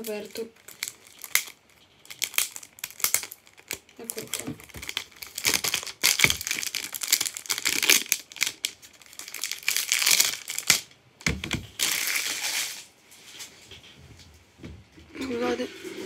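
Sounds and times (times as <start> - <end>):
plastic shrink-wrap crinkling: 0.0 - 13.5.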